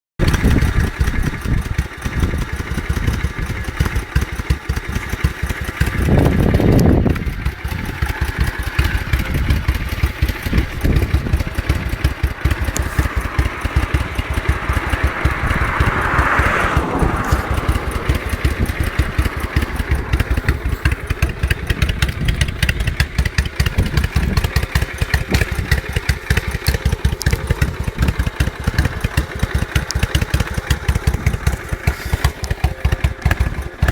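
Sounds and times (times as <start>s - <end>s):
engine revving: 0.2s - 33.9s
motorcycle engine idling: 0.2s - 33.9s.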